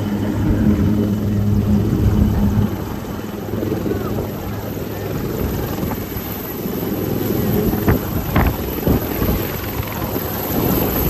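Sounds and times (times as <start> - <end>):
helicopter engine whine: 0.0 - 11.0
helicopter rotor blades beating: 0.0 - 11.0.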